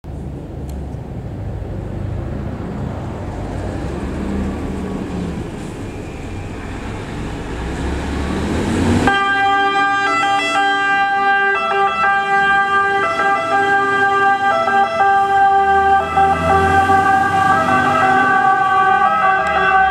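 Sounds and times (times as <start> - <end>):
diesel engine rumbling: 0.0 - 19.9
fire engine siren: 4.0 - 19.9.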